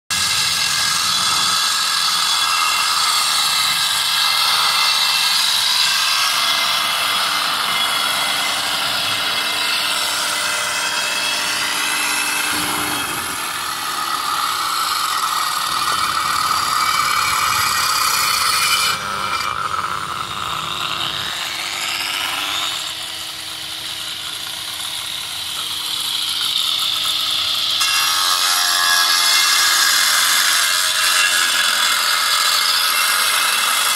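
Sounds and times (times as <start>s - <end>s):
angle grinder cutting stone: 0.1s - 33.9s.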